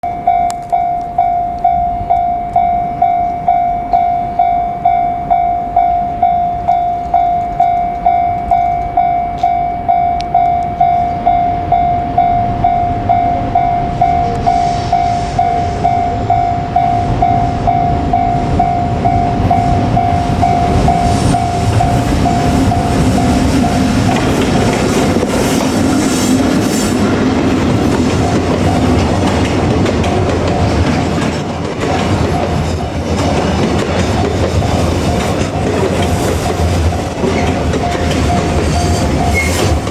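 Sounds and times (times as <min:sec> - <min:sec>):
level crossing warning bell: 0:00.0 - 0:25.4, 0:26.4 - 0:39.9
freight train rumble and clatter: 0:00.3 - 0:39.9.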